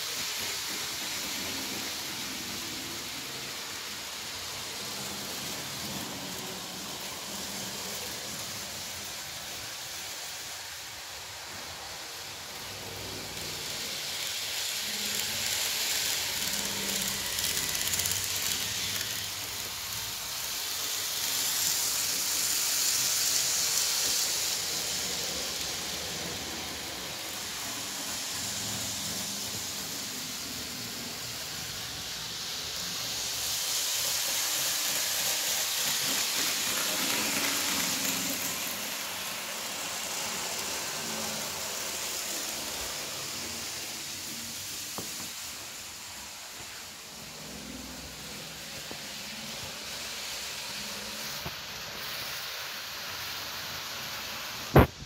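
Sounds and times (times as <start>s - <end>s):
model train running on track: 0.0s - 55.0s.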